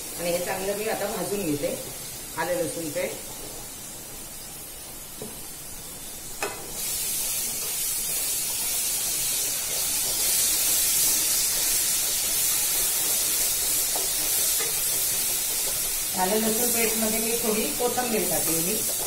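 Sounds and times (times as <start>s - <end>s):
paste sizzling in hot oil: 0.0s - 19.0s.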